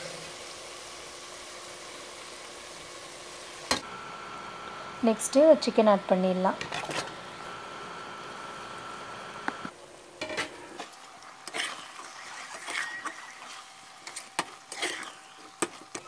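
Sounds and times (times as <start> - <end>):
sizzling in a pot: 0.0 - 16.0.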